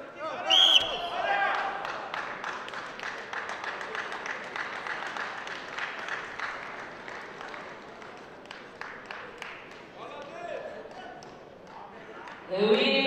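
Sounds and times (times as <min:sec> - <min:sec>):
crowd applauding: 0:00.5 - 0:12.4.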